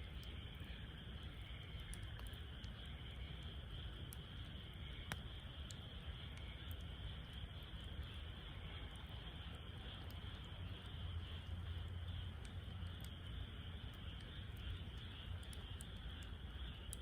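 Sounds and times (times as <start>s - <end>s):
fire rumble and hiss: 0.0s - 17.0s
wood fire crackling: 0.0s - 17.0s.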